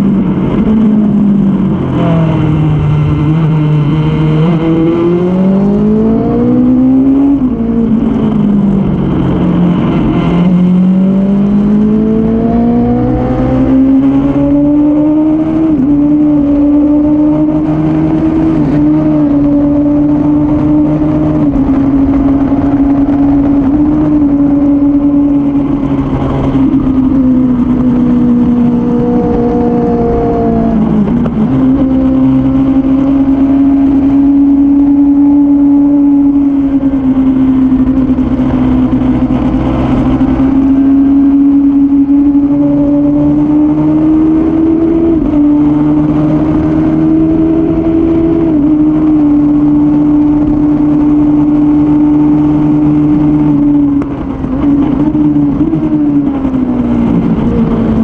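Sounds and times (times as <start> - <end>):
motorcycle engine revving high: 0.0 - 58.0.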